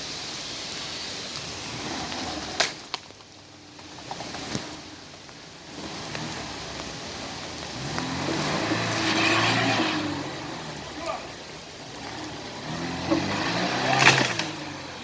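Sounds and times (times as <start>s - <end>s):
car engine running under load: 1.4s - 15.0s.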